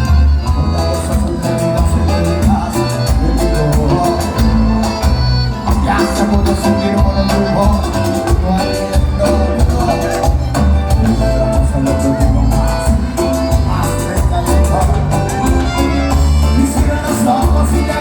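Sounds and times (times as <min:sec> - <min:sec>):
live band playing instrumental: 0:00.0 - 0:18.0.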